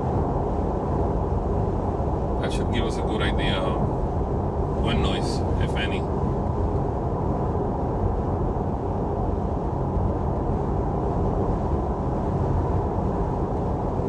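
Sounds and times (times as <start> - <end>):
road and wind noise in car cabin: 0.0 - 14.0.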